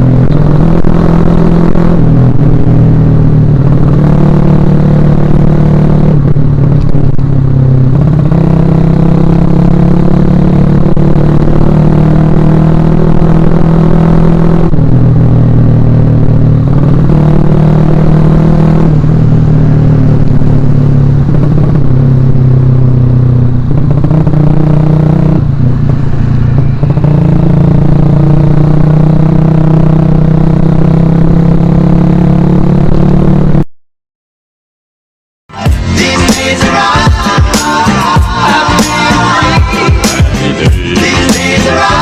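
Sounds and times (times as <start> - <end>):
motorcycle engine revving: 0.0 - 33.7, 35.5 - 42.0.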